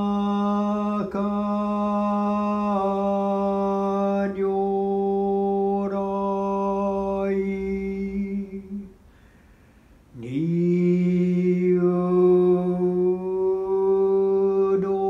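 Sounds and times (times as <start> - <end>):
man chanting: 0.0 - 9.0, 10.1 - 15.0.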